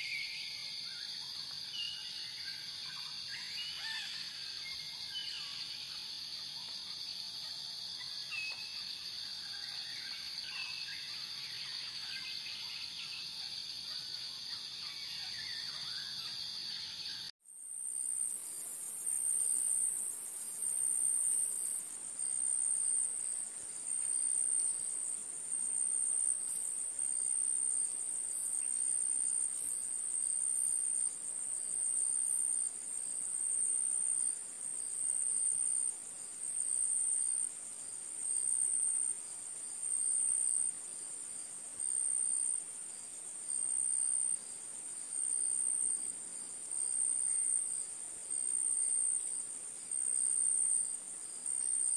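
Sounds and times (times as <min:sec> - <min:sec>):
insects chirping in a pulsing trill: 0:00.0 - 0:51.9.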